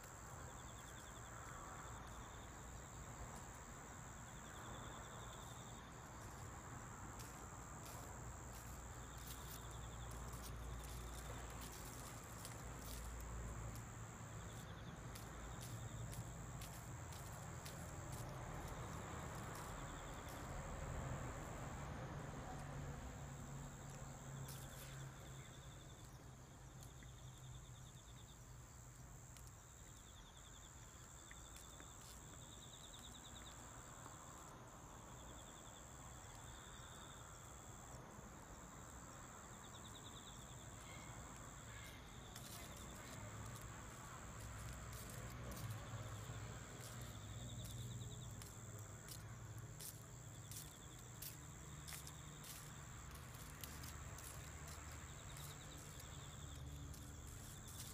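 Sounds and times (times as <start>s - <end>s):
insect chirping trills: 0.0s - 57.9s.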